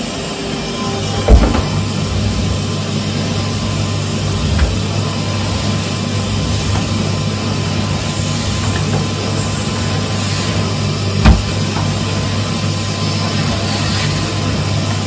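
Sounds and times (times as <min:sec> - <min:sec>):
vacuum cleaner on carpet: 0:00.0 - 0:15.0.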